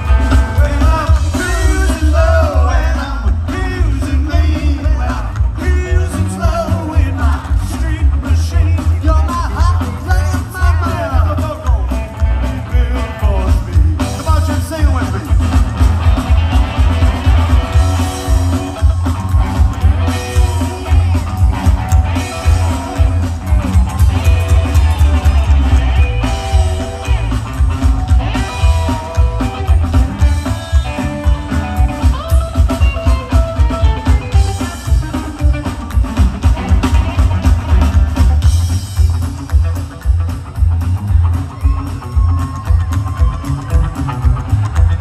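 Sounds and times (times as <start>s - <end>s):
drums: 0.0s - 45.0s
electric guitar: 0.0s - 45.0s
upright bass: 0.0s - 45.0s.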